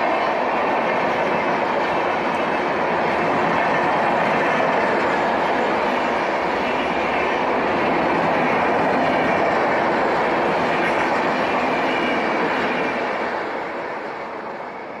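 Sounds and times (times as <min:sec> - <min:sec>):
train rushing past: 0:00.0 - 0:15.0.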